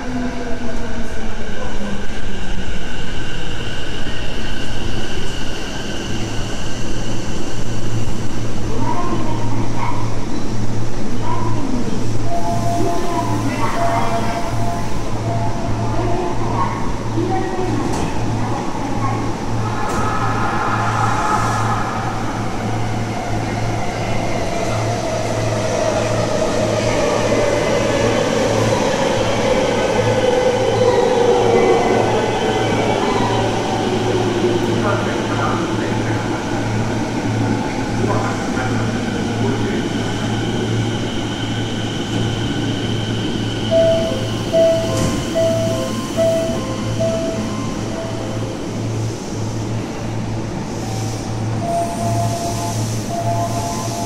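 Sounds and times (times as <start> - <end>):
train rumbling with high whine: 0.0 - 54.0.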